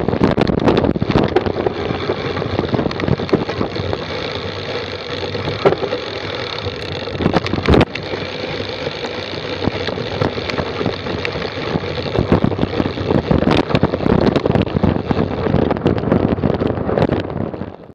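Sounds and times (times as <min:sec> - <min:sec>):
bike chain rattling and slapping: 0:00.0 - 0:17.9
sharp clicks and knocks: 0:00.1 - 0:16.1.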